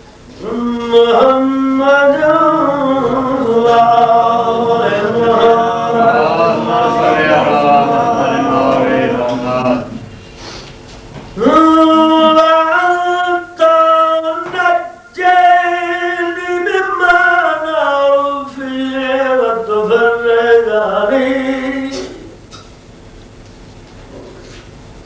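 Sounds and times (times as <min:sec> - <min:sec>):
man chanting: 0:00.4 - 0:10.1, 0:11.4 - 0:22.3.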